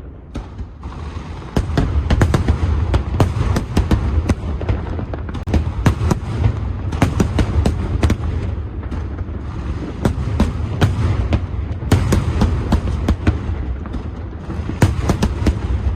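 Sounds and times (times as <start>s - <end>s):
fireworks bangs and crackles: 0.0s - 15.9s.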